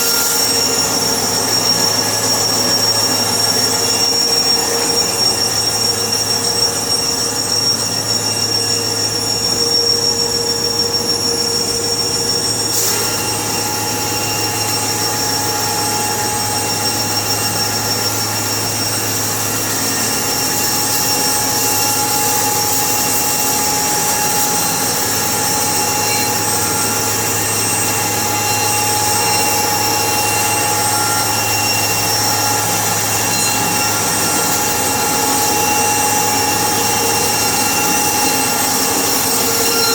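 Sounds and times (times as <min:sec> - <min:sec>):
sawmill machinery humming and whining: 0:00.0 - 0:39.9.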